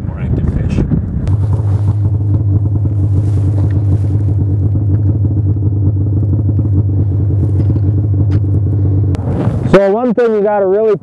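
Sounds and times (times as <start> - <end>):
snowmobile engine droning: 0.0 - 11.0.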